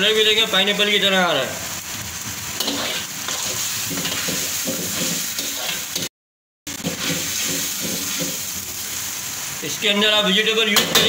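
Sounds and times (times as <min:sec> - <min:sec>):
sauce sizzling and bubbling in a wok: 0:00.0 - 0:06.1, 0:06.7 - 0:11.0.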